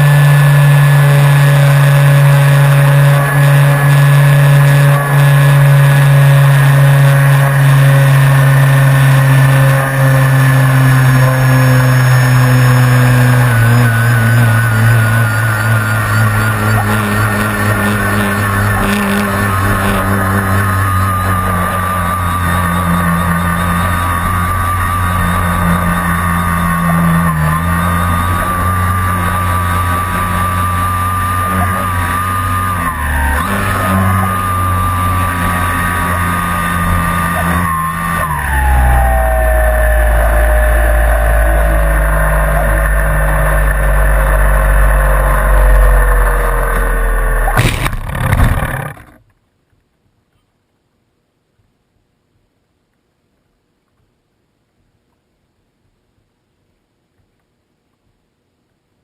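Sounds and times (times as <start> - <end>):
rc plane whistling whine: 0.0 - 47.6.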